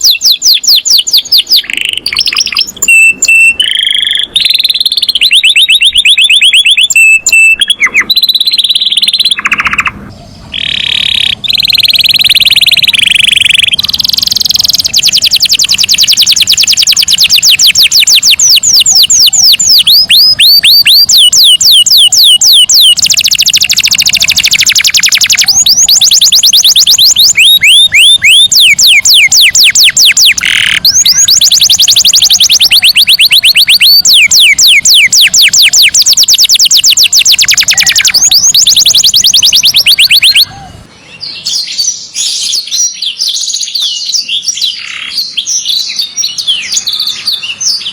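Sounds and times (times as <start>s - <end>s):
bird chirps: 0.0s - 47.9s
canary singing rolling trills: 0.0s - 47.9s.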